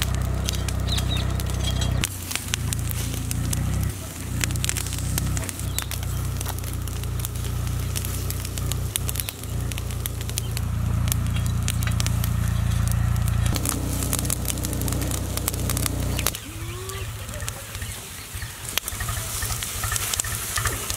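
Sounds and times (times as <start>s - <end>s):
steady low rumble: 0.0s - 17.6s
charcoal fire crackling and popping: 0.0s - 20.9s.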